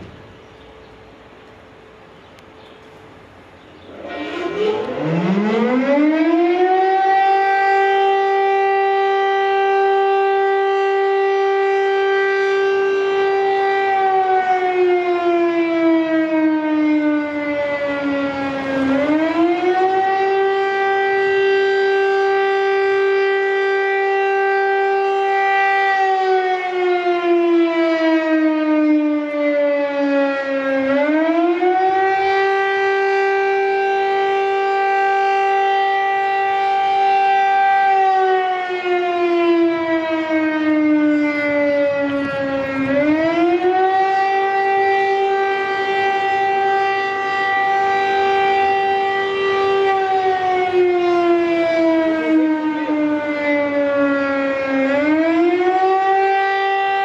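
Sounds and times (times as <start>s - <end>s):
alert siren wailing: 3.7s - 57.0s.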